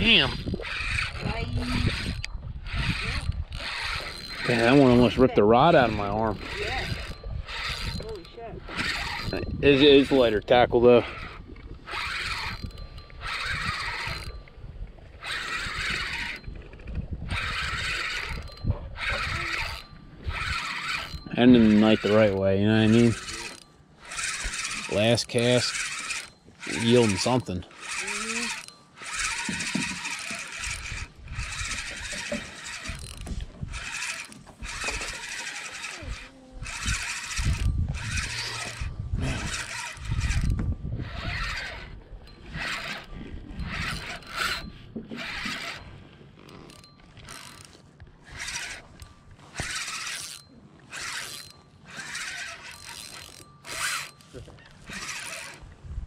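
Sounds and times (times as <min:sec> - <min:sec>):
spinning reel cranking: 0:00.0 - 0:55.7.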